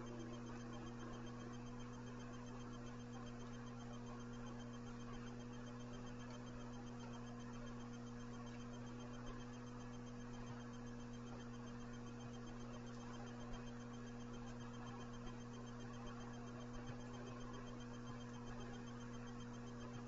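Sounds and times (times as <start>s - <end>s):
low electrical hum: 0.0s - 20.0s
soft ticks: 0.0s - 20.0s.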